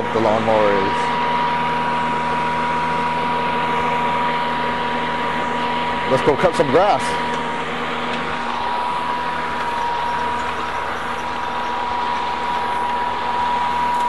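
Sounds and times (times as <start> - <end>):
electric lawn mower whirring: 0.0 - 14.0.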